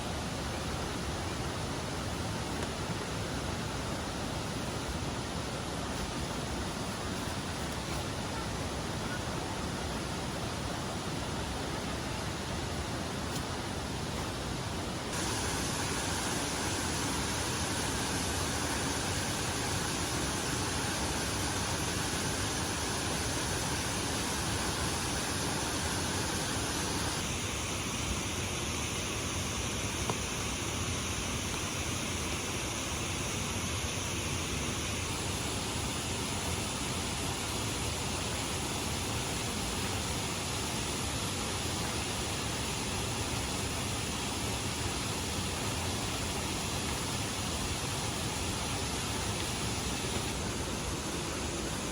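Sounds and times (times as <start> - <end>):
waterfall rushing: 0.1 - 28.2, 34.8 - 51.9.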